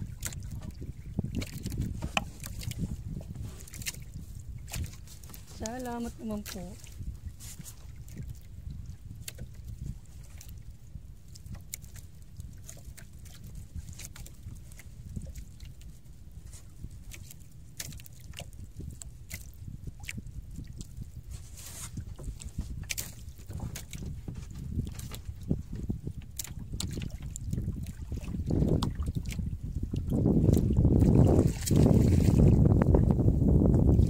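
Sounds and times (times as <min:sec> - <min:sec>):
light ticks and splashes: 0:00.0 - 0:34.0
water lapping against boat: 0:00.0 - 0:34.0
wind rumbling on microphone: 0:00.0 - 0:34.0.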